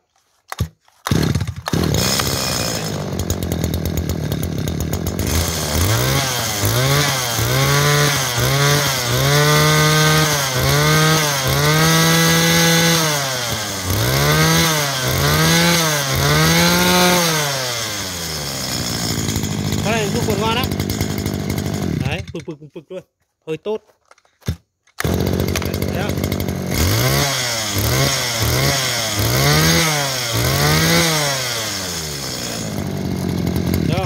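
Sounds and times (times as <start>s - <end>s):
brush cutter engine revving: 0.2s - 22.6s, 24.9s - 34.0s.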